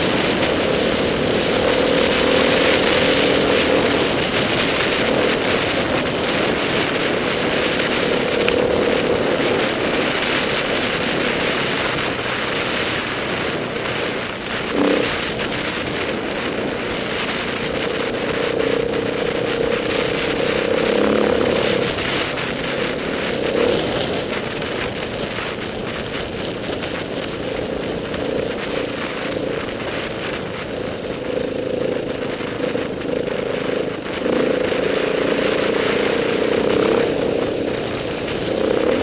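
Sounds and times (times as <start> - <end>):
motorcycle engine running: 0.0 - 39.0
steady rushing noise: 0.0 - 39.0.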